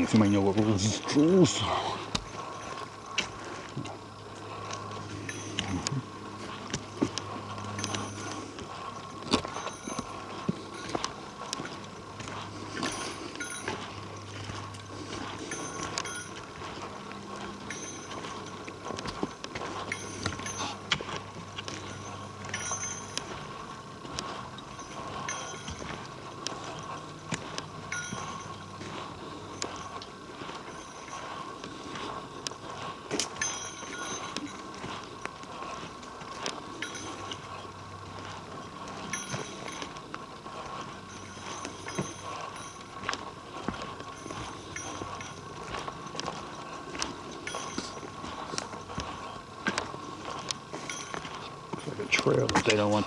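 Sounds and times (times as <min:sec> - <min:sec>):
faint steady hum: 0:00.0 - 0:53.0
footsteps crunching on trail: 0:00.0 - 0:53.0.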